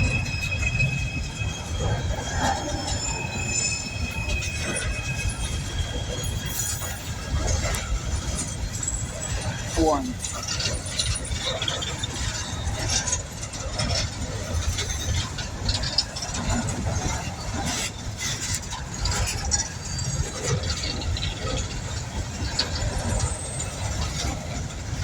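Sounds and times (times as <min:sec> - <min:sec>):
train cars rumbling past: 0:00.0 - 0:25.0
wheels clicking and squeaking on rails: 0:00.0 - 0:25.0.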